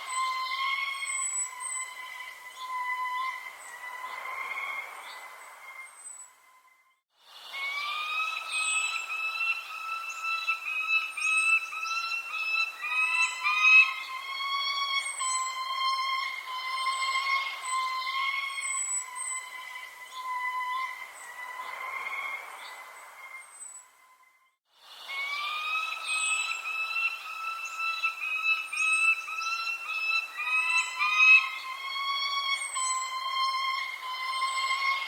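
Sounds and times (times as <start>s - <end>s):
high whistle-like tone: 0.0s - 4.4s, 5.6s - 21.8s, 25.0s - 35.0s
small birds chirping: 0.0s - 6.6s, 7.4s - 24.2s, 25.0s - 35.0s.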